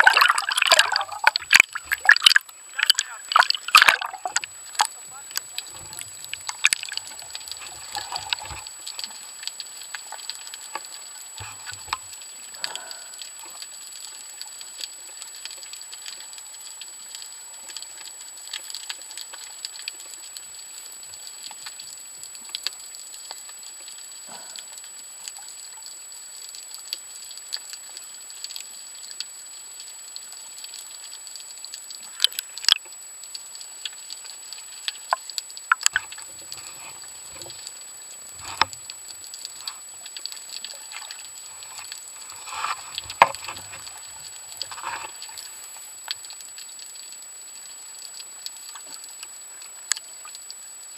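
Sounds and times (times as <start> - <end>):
underwater clicking crackle: 0.0 - 50.9.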